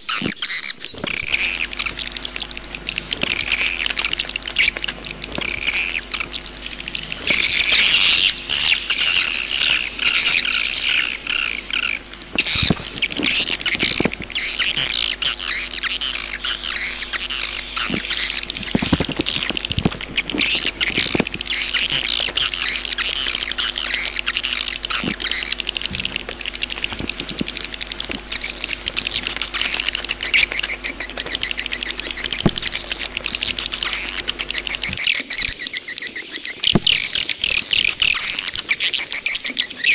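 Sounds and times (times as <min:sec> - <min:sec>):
swiftlets twittering: 0:00.0 - 0:39.9.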